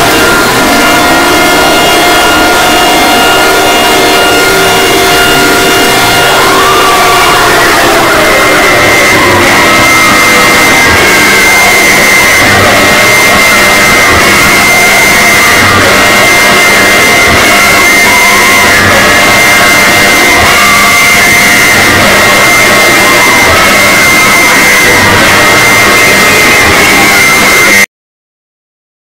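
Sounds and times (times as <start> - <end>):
clipped distortion noise: 0.0 - 27.9
distorted alarm tone: 0.0 - 27.9.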